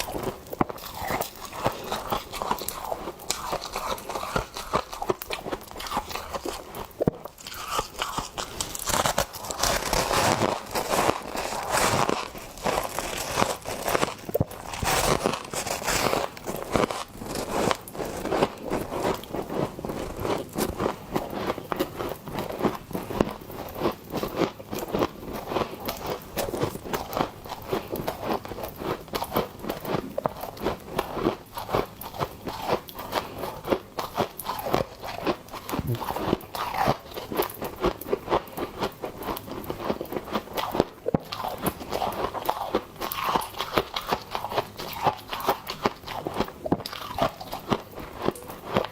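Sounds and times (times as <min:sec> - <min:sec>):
frost crunching when chewed: 0:00.0 - 0:48.9.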